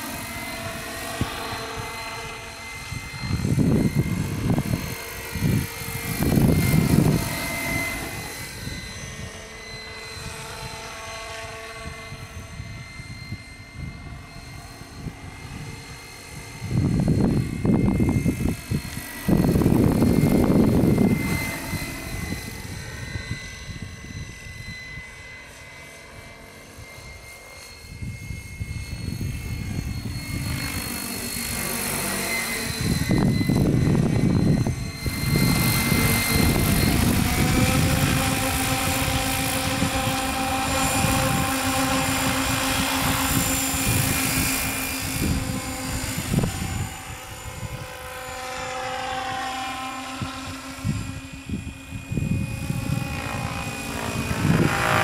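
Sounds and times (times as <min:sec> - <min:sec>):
wind rumble on microphone: 0:00.0 - 0:25.2, 0:27.8 - 0:49.5, 0:50.1 - 0:55.0
model helicopter whine and rotor chop: 0:00.0 - 0:55.0.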